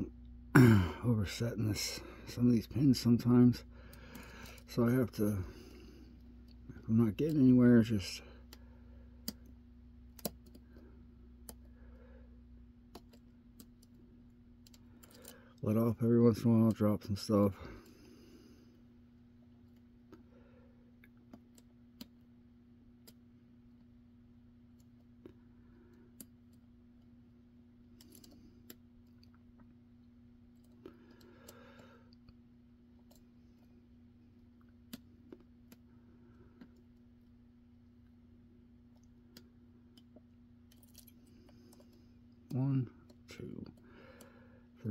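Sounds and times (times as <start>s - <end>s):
faint steady hum: 0.0s - 44.9s.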